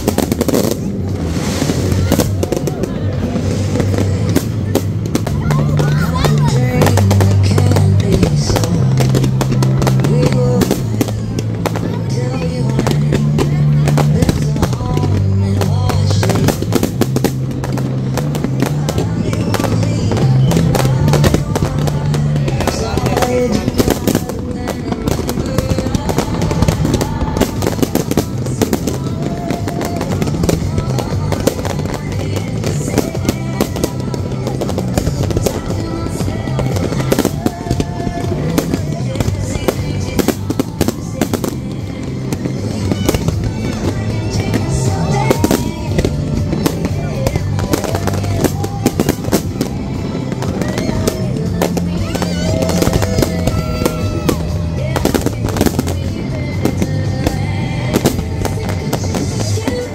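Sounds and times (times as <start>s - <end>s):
fireworks bangs and crackling: 0.0s - 59.9s
music with deep bass: 0.0s - 59.9s.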